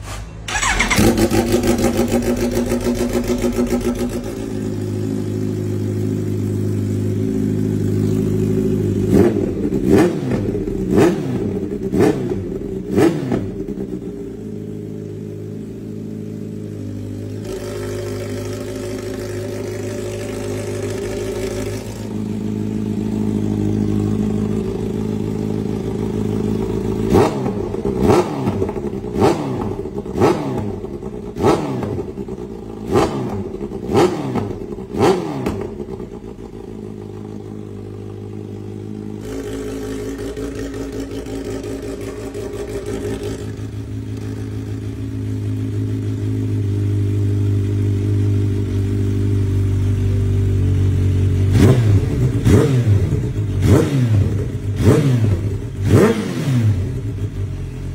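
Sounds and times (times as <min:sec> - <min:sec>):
motorcycle engine idling: 0:00.5 - 0:57.9.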